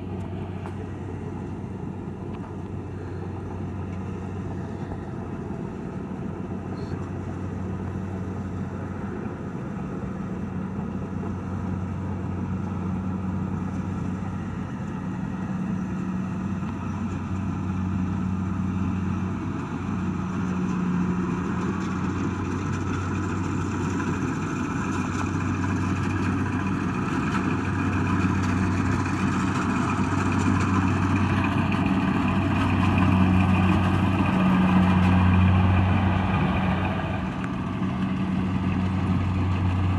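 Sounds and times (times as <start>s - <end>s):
diesel engine running with clatter: 0.0s - 39.9s.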